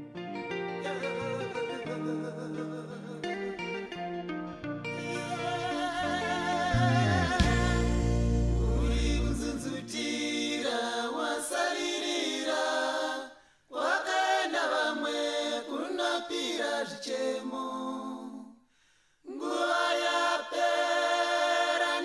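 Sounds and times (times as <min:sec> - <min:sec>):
unaccompanied choir singing: 0:00.7 - 0:03.6, 0:05.0 - 0:18.6, 0:19.3 - 0:22.0.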